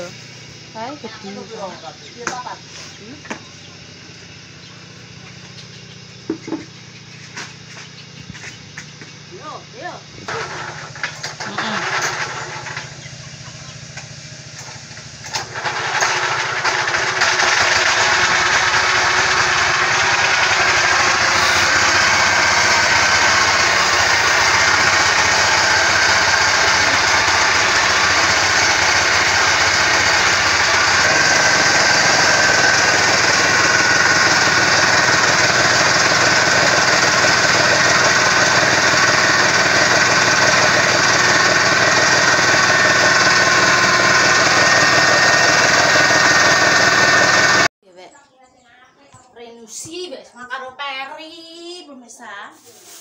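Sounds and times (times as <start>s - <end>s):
grinding mill: 0.0s - 47.7s
small engine running: 0.0s - 47.7s.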